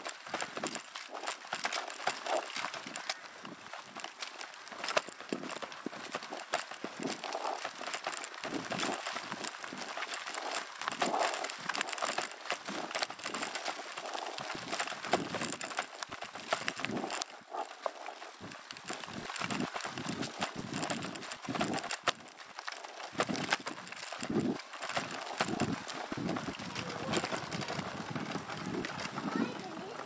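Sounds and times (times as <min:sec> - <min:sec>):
bike rattling and knocking: 0:00.0 - 0:30.0
tyres crunching on dirt: 0:00.0 - 0:30.0.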